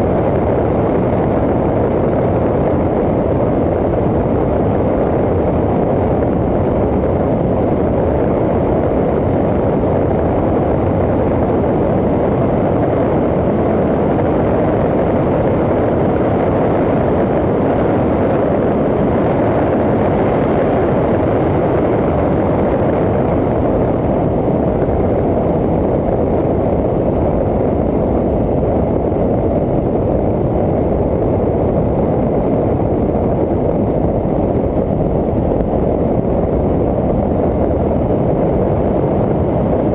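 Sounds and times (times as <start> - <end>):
wind and road noise rumble: 0.0 - 39.9.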